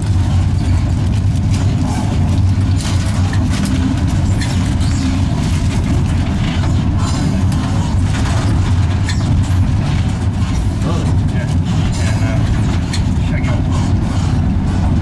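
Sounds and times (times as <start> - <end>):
electric locomotive hum and rumble: 0.0 - 15.0.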